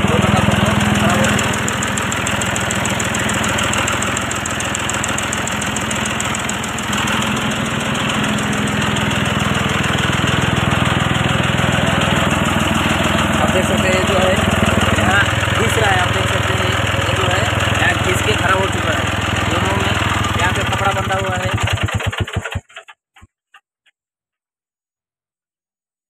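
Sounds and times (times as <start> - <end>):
diesel tractor engine idling: 0.0 - 22.7.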